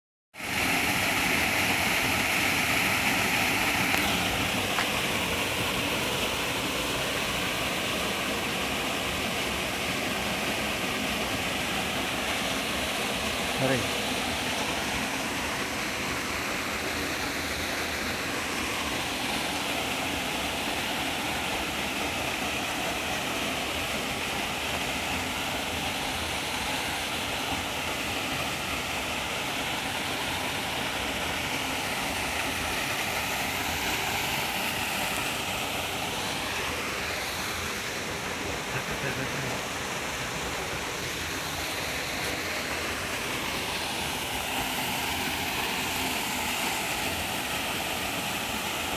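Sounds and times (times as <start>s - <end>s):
waterfall splashing: 0.4s - 48.9s.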